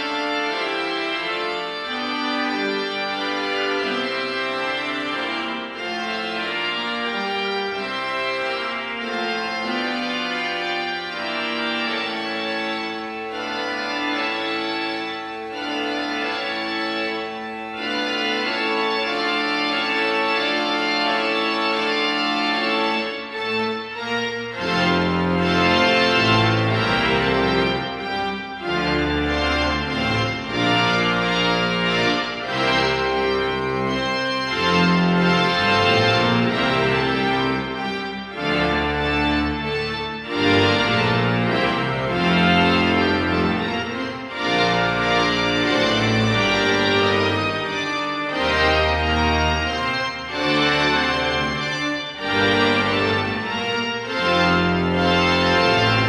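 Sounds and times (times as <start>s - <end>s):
organ pedal bass notes: 0.0s - 56.0s
pipe organ chords: 0.0s - 56.0s.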